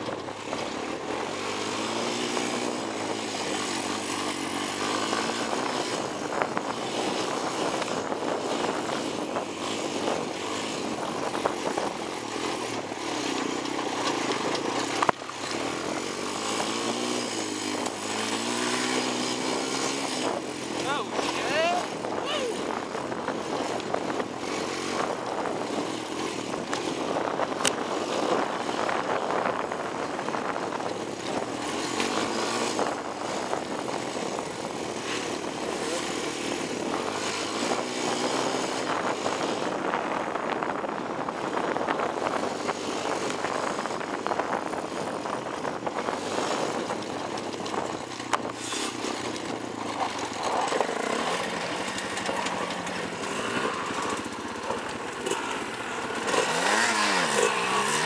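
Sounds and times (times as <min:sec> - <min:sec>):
atv engine revving: 0:00.0 - 0:58.0
wind rushing over microphone: 0:00.0 - 0:58.0.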